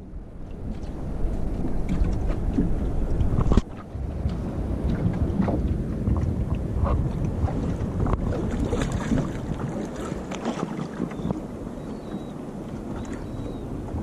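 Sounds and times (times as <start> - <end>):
wind buffeting microphone: 0.0 - 14.0
water splashing against boat hull: 0.4 - 14.0.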